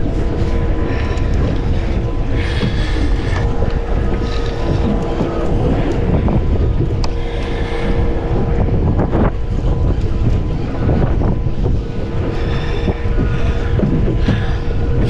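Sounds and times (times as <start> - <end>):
boat motor humming: 0.0 - 15.0
wind buffeting microphone: 0.0 - 15.0.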